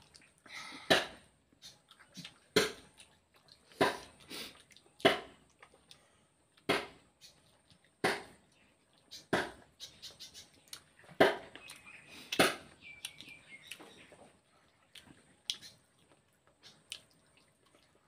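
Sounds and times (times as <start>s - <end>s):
wet chewing and lip-smacking: 0.0s - 18.0s.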